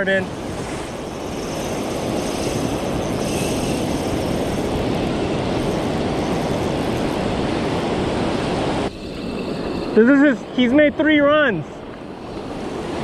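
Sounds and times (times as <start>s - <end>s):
wind on microphone: 0.0s - 10.6s
surf washing over sand: 0.0s - 13.0s.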